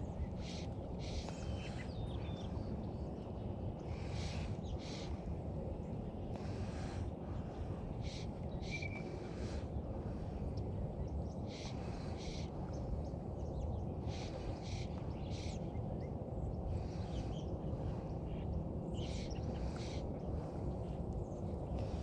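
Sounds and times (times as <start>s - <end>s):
birds calling: 0.0s - 22.0s
low rushing background noise: 0.0s - 22.0s.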